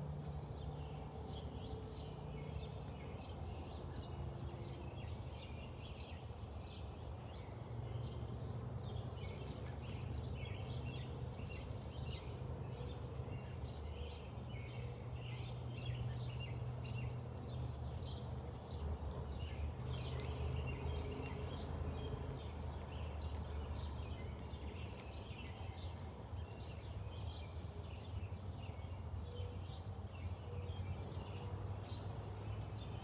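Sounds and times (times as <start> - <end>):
small birds chirping: 0.3 - 33.0.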